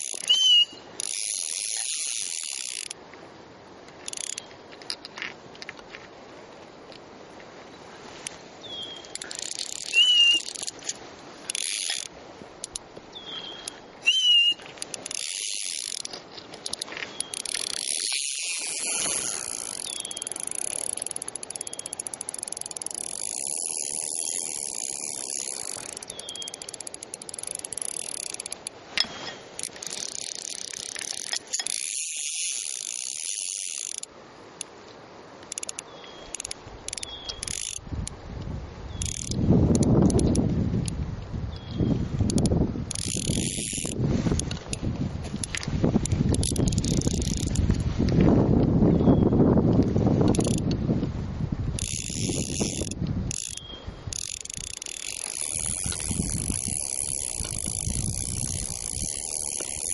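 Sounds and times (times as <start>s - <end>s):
fly reel drag ratcheting: 0.0s - 3.0s, 3.9s - 5.3s, 8.2s - 12.9s, 13.5s - 34.8s, 35.4s - 38.2s, 38.9s - 48.0s, 49.7s - 50.8s, 51.7s - 59.9s.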